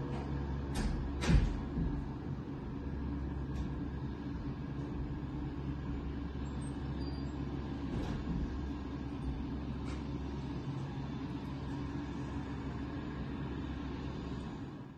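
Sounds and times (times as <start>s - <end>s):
aircraft engine idling: 0.0s - 14.9s.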